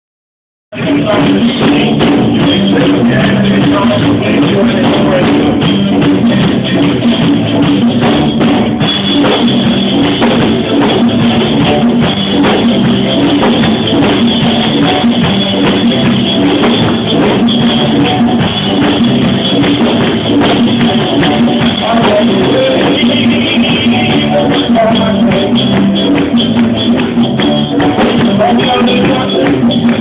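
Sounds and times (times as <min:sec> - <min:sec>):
rock band playing: 0:00.8 - 0:30.0.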